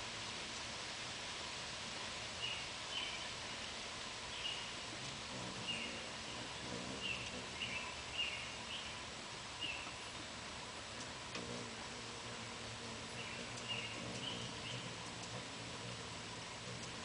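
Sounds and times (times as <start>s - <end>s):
steady outdoor hiss: 0.0s - 17.0s
hummingbird chip calls: 2.4s - 17.0s.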